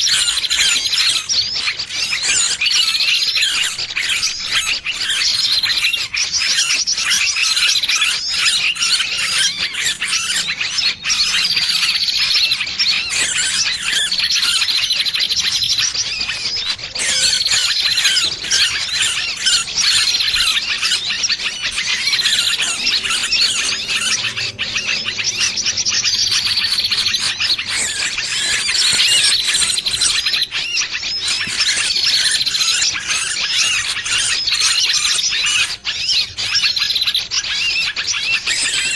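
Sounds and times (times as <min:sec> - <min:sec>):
small bird distress cries: 0:00.0 - 0:38.9.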